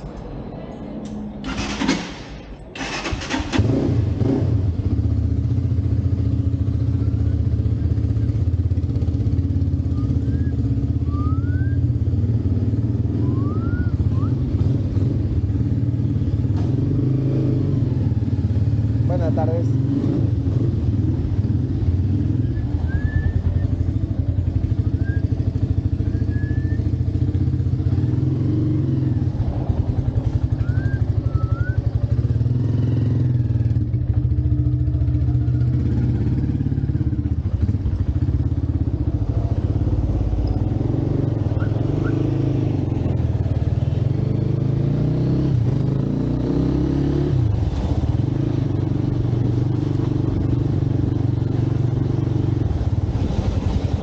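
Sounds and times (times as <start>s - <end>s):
motorcycle engine running: 2.8s - 54.0s.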